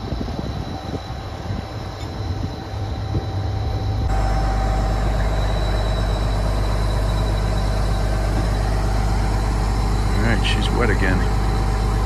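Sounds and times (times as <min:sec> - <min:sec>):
diesel engine deep hum: 0:00.0 - 0:12.0
thin steady whine: 0:00.0 - 0:12.0.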